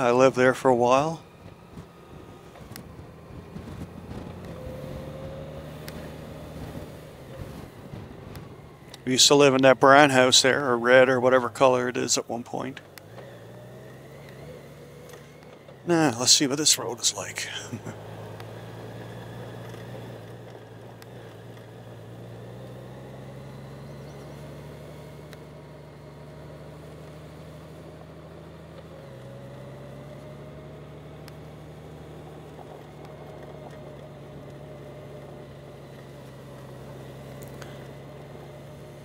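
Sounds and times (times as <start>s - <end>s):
motorcycle engine running: 0.0s - 11.6s, 12.8s - 39.0s.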